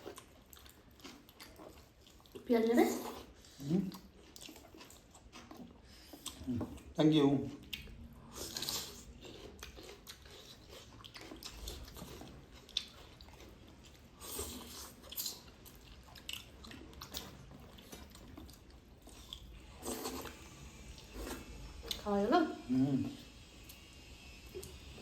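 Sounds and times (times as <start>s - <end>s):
chewing food: 0.0s - 25.0s.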